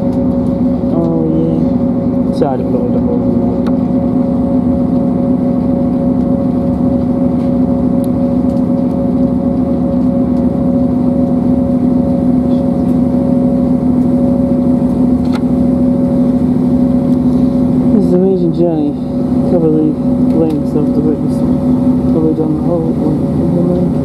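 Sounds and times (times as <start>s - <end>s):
diesel engine drone: 0.0s - 24.0s
wheels rumbling on rails: 0.0s - 24.0s.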